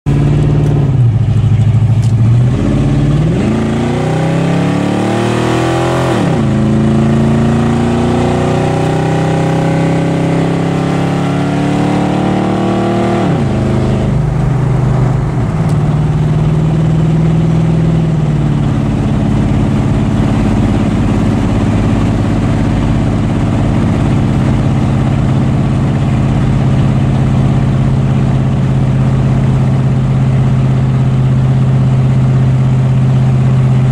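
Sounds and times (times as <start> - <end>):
car engine revving and idling: 0.1 - 33.9.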